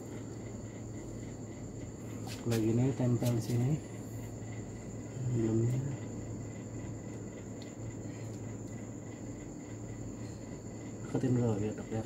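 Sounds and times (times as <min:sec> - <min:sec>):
crickets trilling: 0:00.0 - 0:12.0
low background hum: 0:00.0 - 0:12.0.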